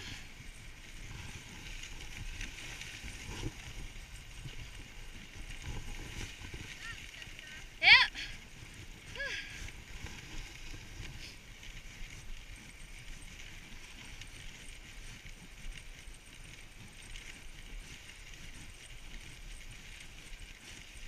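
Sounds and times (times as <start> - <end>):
sled runners scraping snow: 0.0 - 21.0.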